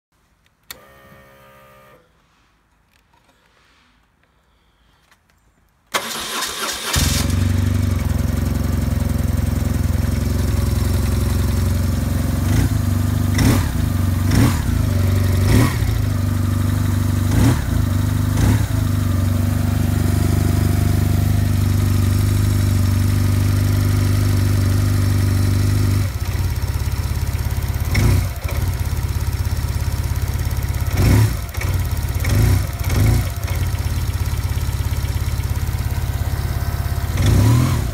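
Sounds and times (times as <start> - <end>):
vehicle engine starting and idling: 5.9 - 37.9.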